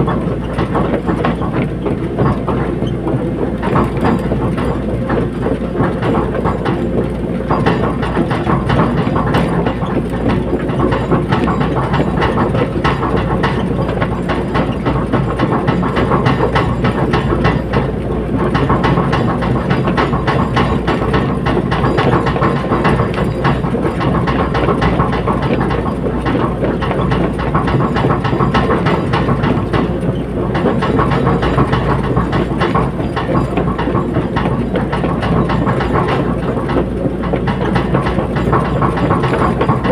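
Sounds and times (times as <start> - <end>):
excavator diesel engine running: 0.0 - 39.9
metal clanks rattling: 0.0 - 39.9.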